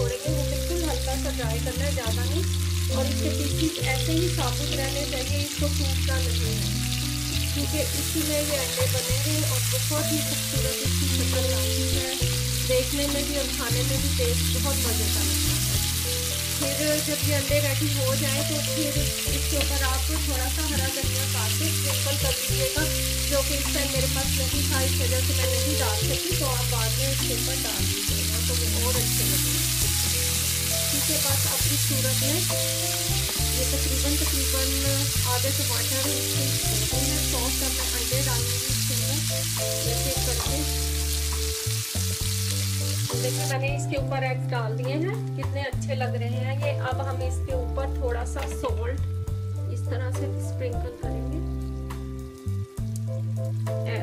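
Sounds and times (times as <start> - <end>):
vegetables sizzling in hot oil: 0.0 - 45.4, 51.0 - 54.0
background music with slow bass: 0.0 - 54.0.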